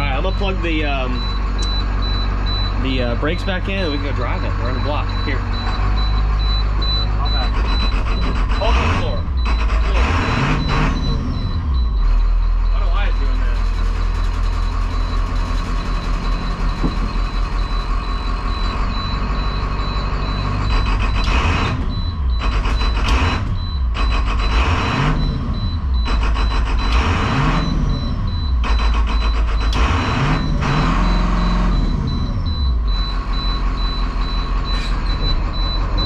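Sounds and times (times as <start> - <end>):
diesel engine idling and revving: 0.0 - 36.0
high pulsing beep: 0.0 - 36.0.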